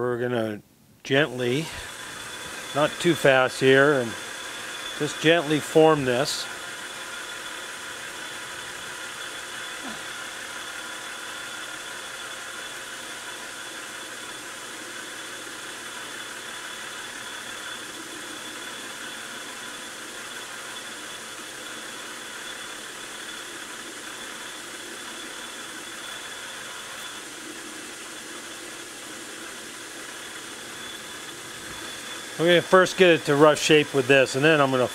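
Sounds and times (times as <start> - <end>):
metal lathe running: 1.1 - 34.9.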